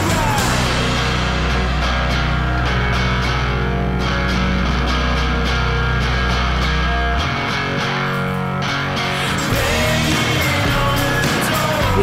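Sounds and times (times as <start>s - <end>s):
guitar music with beat: 0.0s - 12.0s.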